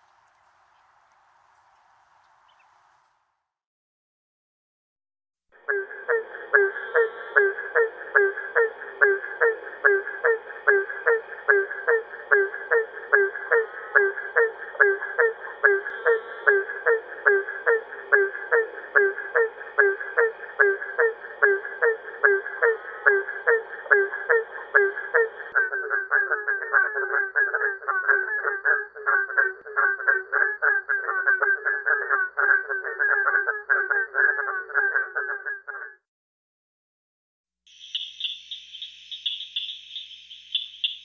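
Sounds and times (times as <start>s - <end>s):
treefrogs calling: 0.0s - 3.1s, 5.6s - 35.9s, 37.7s - 41.0s.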